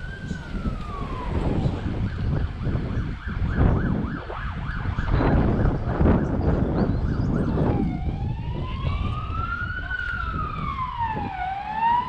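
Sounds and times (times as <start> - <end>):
emergency siren wailing and yelping: 0.0 - 12.0.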